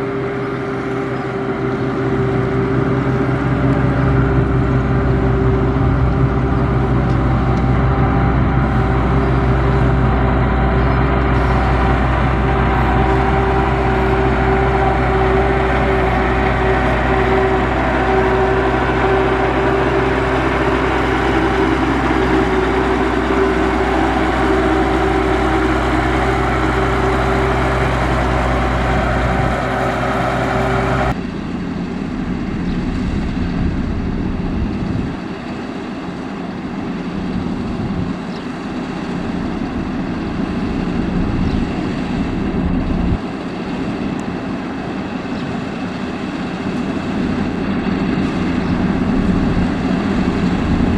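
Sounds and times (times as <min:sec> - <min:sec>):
heavy machinery diesel engines: 0:00.0 - 0:50.9
rough machine engine: 0:00.0 - 0:50.9.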